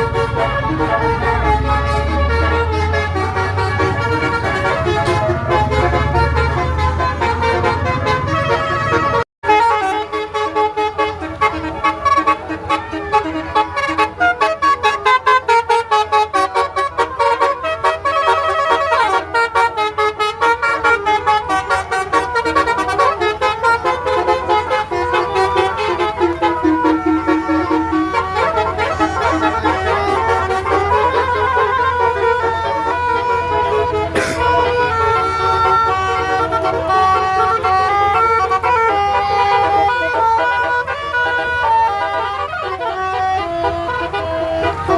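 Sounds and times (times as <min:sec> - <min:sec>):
multi-tone bus horn melody: 0:00.0 - 0:44.9.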